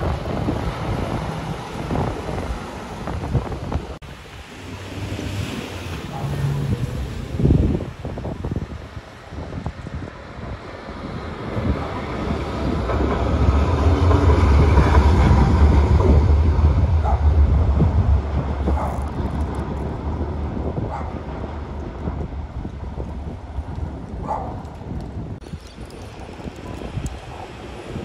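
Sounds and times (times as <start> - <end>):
tram passing with low rumble: 0.0 - 28.0.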